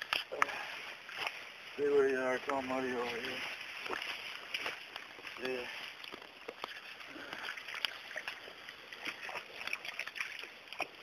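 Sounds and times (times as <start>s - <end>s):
rustling weeds: 0.0s - 10.6s.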